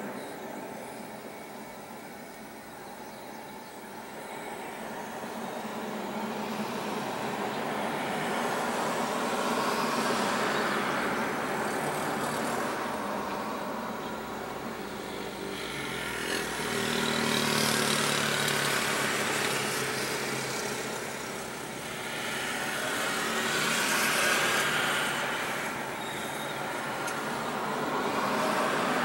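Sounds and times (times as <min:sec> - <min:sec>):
vehicle passing with rushing noise: 0:05.1 - 0:29.0.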